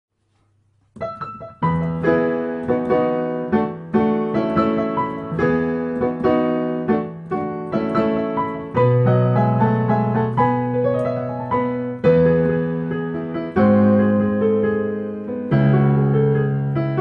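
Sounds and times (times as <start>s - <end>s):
solo piano playing pop song: 0.8s - 17.0s.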